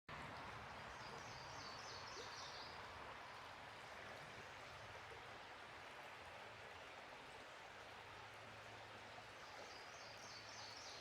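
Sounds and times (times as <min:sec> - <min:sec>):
steady outdoor hiss: 0:00.1 - 0:11.0.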